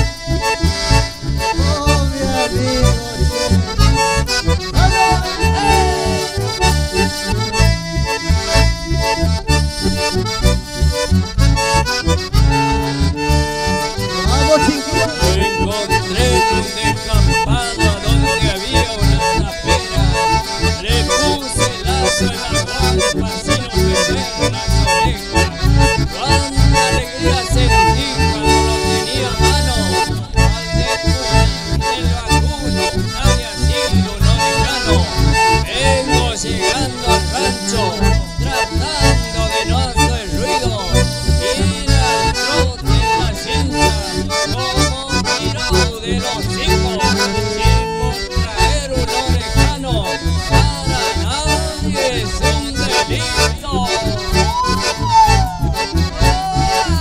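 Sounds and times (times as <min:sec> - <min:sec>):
accordion and bandoneon: 0:00.0 - 0:57.0
acoustic guitar: 0:00.0 - 0:57.0
bass: 0:00.0 - 0:57.0.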